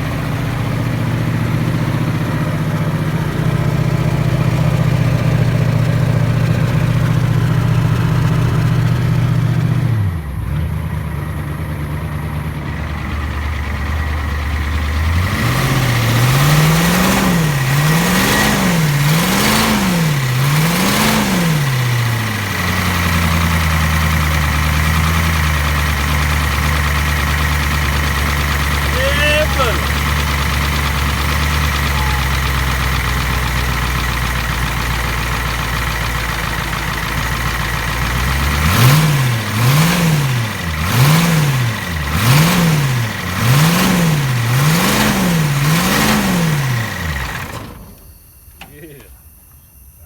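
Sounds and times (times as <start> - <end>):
diesel engine idling and revving: 0.0 - 50.0.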